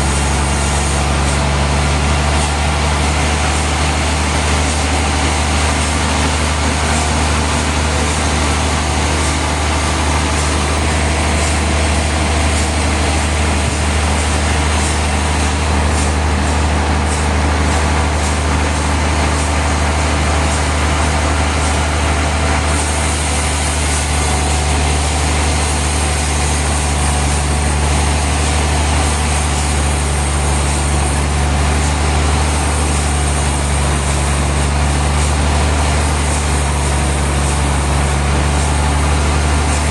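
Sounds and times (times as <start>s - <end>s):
sawmill machinery engine drone: 0.0s - 39.9s.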